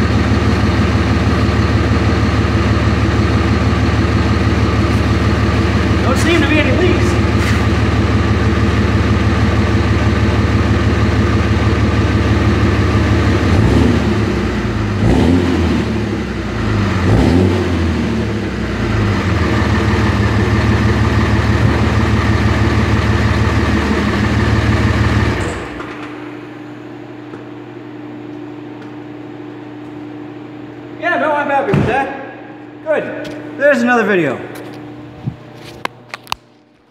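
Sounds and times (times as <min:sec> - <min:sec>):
diesel engine idling and revving: 0:00.0 - 0:30.8.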